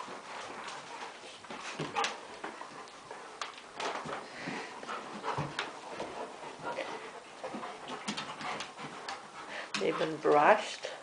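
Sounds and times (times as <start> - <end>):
puppies scuffling: 0.0 - 11.0
puppy sounds: 0.0 - 11.0.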